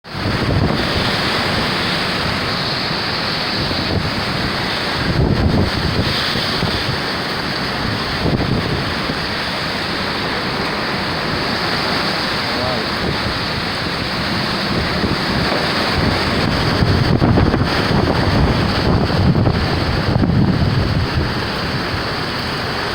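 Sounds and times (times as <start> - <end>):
hurricane wind blowing: 0.0 - 22.9
wind gusts buffeting microphone: 0.0 - 22.9.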